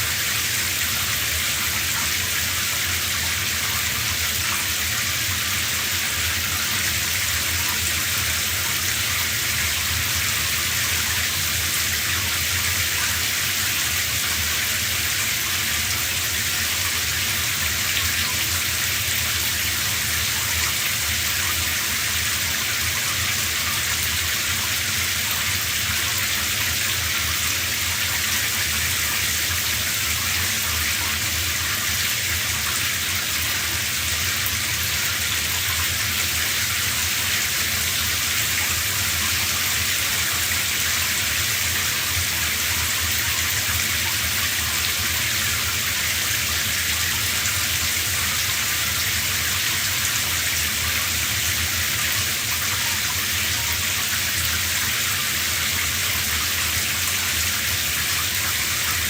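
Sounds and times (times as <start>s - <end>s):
shower spraying water: 0.0s - 59.0s.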